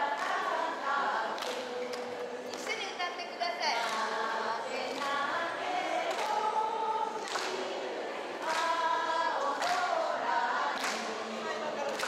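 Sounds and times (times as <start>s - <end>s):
women singing in unison: 0.0s - 12.0s.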